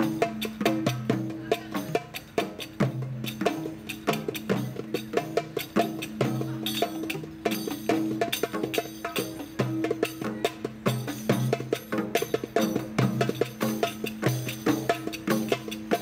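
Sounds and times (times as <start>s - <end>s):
hand drums playing rhythm: 0.0s - 16.0s.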